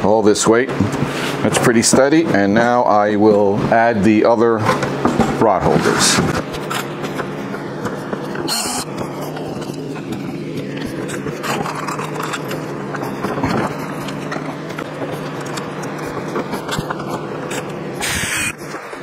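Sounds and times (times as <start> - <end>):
background hum: 0.0 - 19.0.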